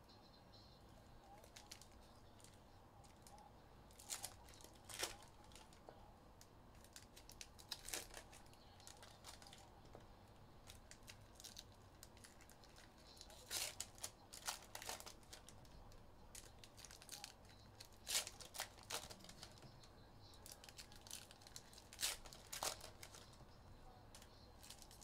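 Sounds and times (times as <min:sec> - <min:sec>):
wrappers tearing and crinkling: 0:01.2 - 0:05.8, 0:06.8 - 0:09.7, 0:10.6 - 0:19.7, 0:20.4 - 0:23.4, 0:24.1 - 0:25.0.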